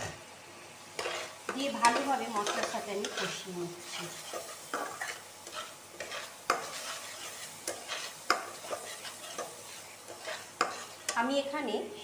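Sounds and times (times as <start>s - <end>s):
paste sizzling in oil: 0.0s - 11.5s
spatula scraping metal pan: 1.0s - 11.1s.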